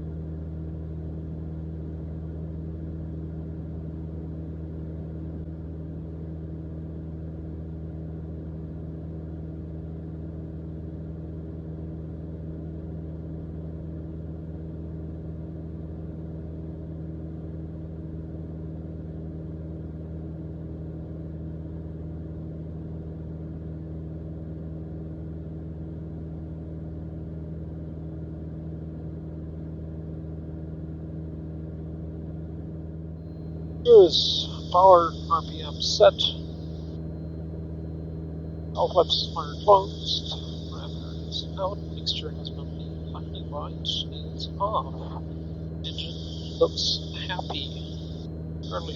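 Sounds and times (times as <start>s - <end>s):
airplane engine and propeller drone: 0.0s - 48.9s.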